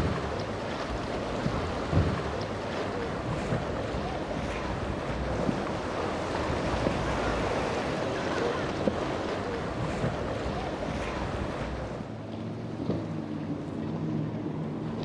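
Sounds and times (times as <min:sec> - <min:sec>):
water rushing off boat hull: 0:00.0 - 0:15.0
wind rumble on microphone: 0:00.0 - 0:15.0.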